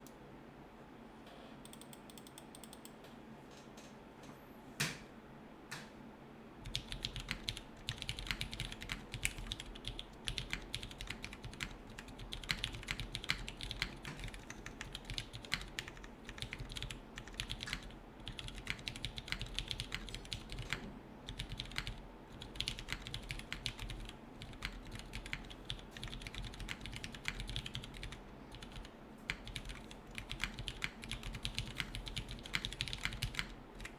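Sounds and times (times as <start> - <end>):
mechanical keyboard typing: 1.6 - 2.9, 6.6 - 33.9.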